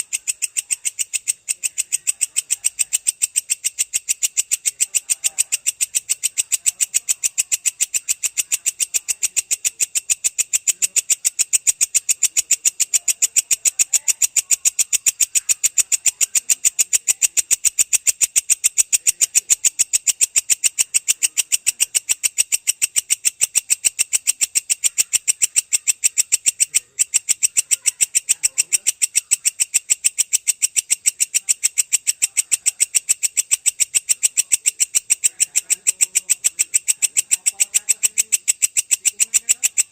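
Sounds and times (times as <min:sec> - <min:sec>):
bush cricket chirping: 0:00.0 - 0:39.9.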